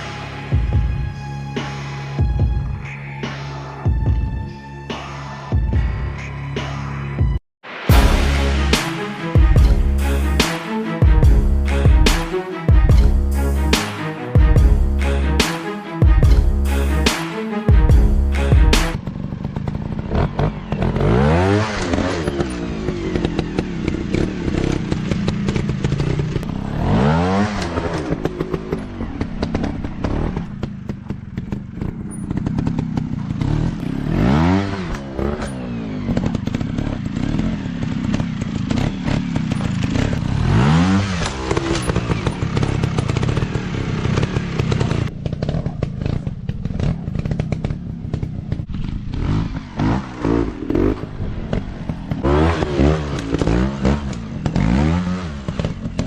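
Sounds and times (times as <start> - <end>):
dirt bike engine revving: 7.9 - 56.0.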